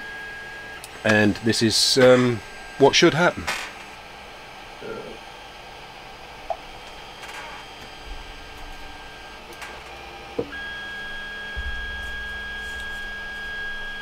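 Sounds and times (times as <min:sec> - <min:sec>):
stepper motor whine: 0:00.0 - 0:14.0.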